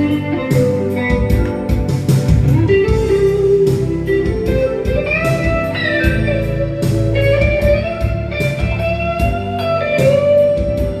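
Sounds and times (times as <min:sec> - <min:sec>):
bass: 0:00.0 - 0:11.0
drums: 0:00.0 - 0:11.0
electric guitar slow melody: 0:00.0 - 0:11.0.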